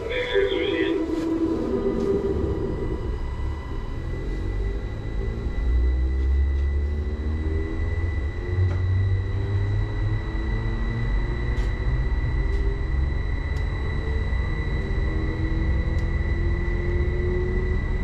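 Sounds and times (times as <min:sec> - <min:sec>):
low rumble: 0:00.0 - 0:18.0
steady high whine: 0:00.0 - 0:18.0
train motors whining: 0:00.0 - 0:18.0.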